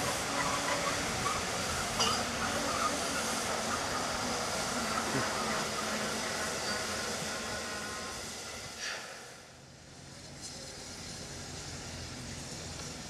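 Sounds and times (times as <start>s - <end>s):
steam locomotive running: 0.0s - 13.0s.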